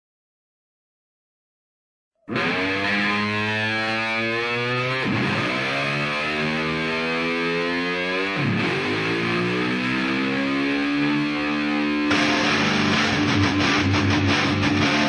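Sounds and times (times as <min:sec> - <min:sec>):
distorted electric guitar: 0:02.3 - 0:15.0.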